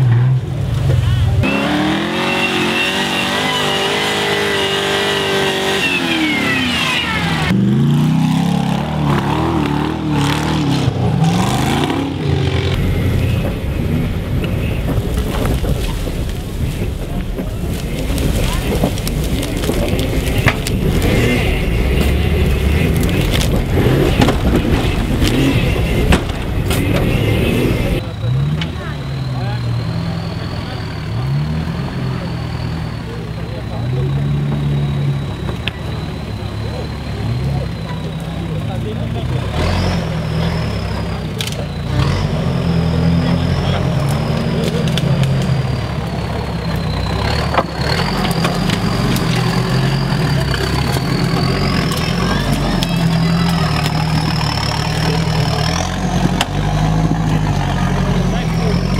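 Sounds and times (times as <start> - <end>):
off-road vehicle engine pulling: 0.0 - 58.9.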